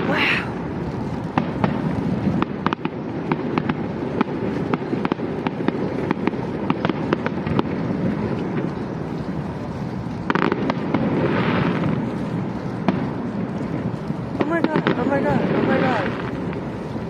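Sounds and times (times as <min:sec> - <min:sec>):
fireworks hissing and crackling: 0:00.0 - 0:17.0
fireworks pops and bangs: 0:00.0 - 0:17.0.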